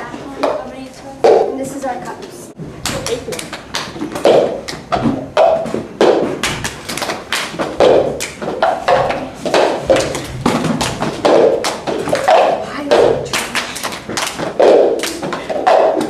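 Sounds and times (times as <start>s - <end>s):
plastic cups thumped on floor: 2.8s - 16.0s.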